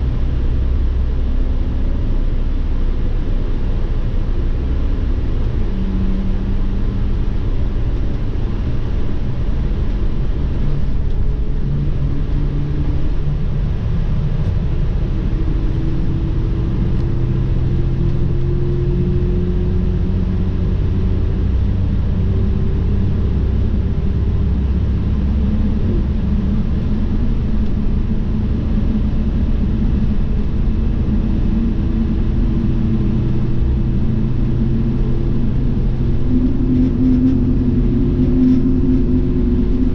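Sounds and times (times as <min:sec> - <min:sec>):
bus engine hum: 0:00.0 - 0:39.9
road and tyre rumble: 0:00.0 - 0:39.9.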